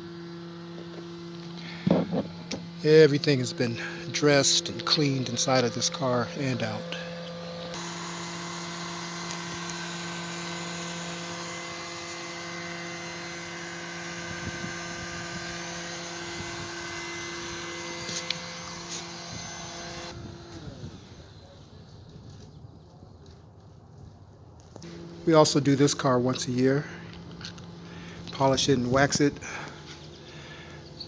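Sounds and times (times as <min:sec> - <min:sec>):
motor humming: 0:00.0 - 0:22.4, 0:24.8 - 0:31.0.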